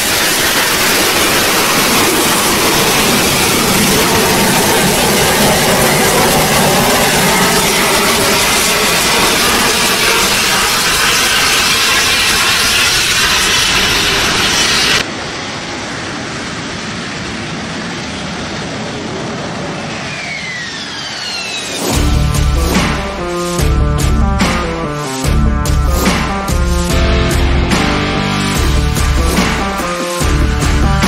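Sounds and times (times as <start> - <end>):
jet engine roaring with whine: 0.0 - 25.3.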